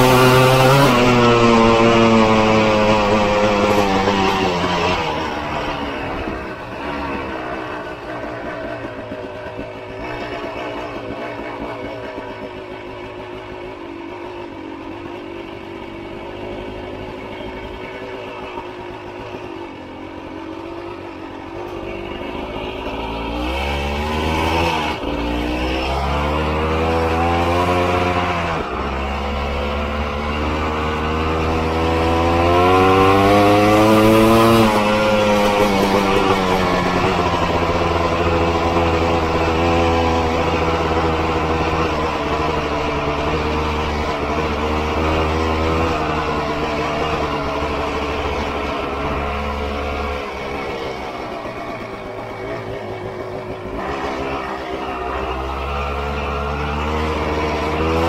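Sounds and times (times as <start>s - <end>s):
dirt bike engine revving: 0.0s - 13.3s, 20.3s - 58.0s.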